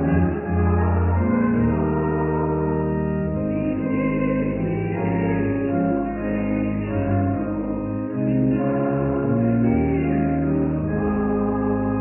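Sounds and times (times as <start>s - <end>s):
hymn accompaniment held chords: 0.0s - 12.0s.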